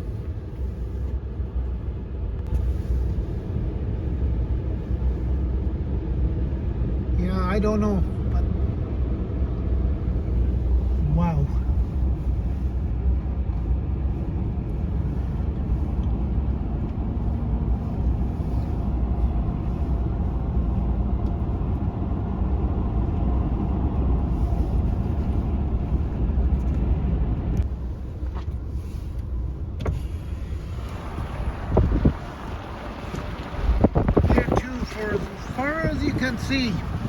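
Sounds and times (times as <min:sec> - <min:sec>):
car driving rumble: 0:00.0 - 0:37.0.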